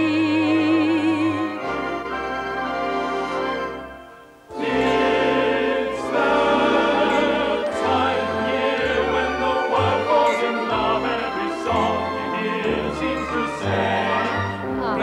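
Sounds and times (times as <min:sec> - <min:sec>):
operatic singing or choir: 0:00.0 - 0:02.4, 0:04.5 - 0:15.0
orchestral music: 0:00.1 - 0:15.0.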